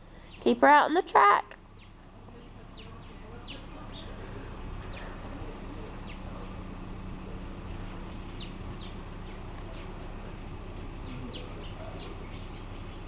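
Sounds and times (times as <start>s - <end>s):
small birds chirping: 0.0s - 0.8s, 1.5s - 13.0s
low background noise: 0.0s - 13.0s.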